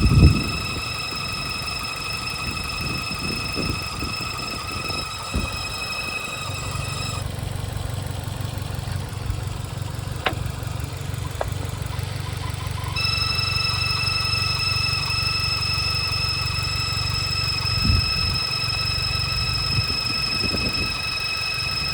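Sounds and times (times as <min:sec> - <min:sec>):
car engine running: 0:00.0 - 0:21.9
high-pitched engine whine: 0:00.0 - 0:21.9.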